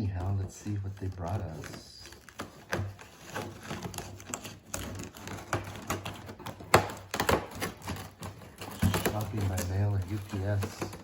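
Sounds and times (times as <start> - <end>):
cardboard box handling: 0.0 - 11.0.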